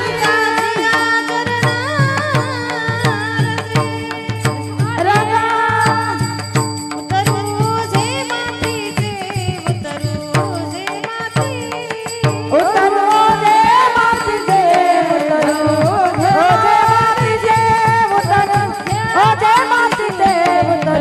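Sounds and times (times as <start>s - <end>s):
woman singing devotional song: 0.0s - 21.0s.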